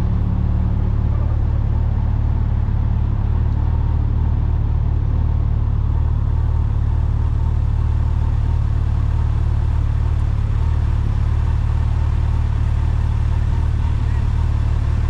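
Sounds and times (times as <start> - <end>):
road noise: 0.0 - 15.0
vehicle engine rumble: 0.0 - 15.0.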